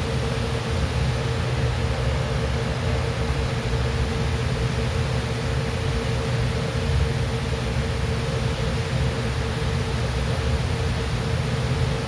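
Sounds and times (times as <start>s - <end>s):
pump machine hum and hiss: 0.0s - 12.0s.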